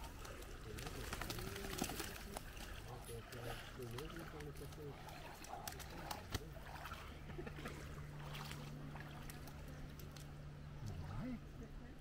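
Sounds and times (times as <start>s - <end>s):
small splashes: 0.0s - 11.1s
steady low hum: 0.0s - 12.0s
water lapping at shore: 0.0s - 12.0s.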